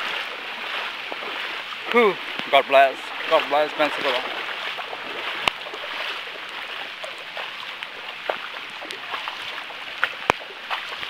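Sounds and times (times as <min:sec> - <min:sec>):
running floodwater: 0:00.0 - 0:11.0
small ticks and splashes: 0:00.0 - 0:11.0.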